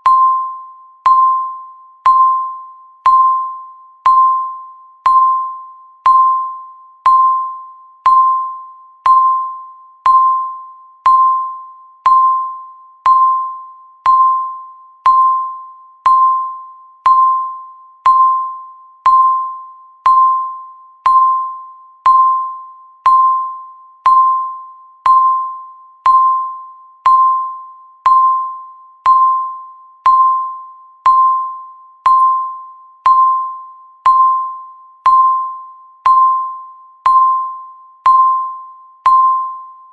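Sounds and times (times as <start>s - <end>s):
timer beeps: 0.0s - 39.9s.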